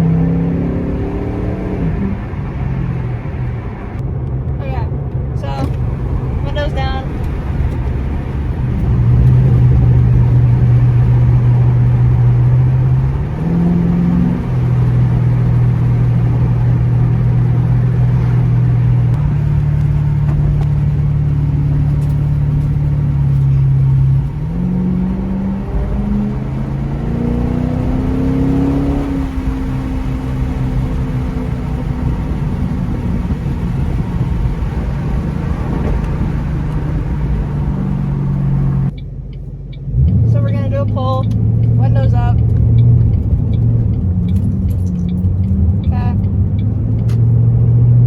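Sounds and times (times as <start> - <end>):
car engine and exhaust drone: 0.0 - 48.0.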